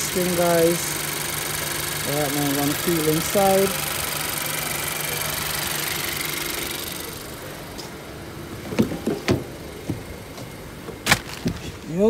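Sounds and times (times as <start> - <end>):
car engine and fan hum: 0.0 - 12.0.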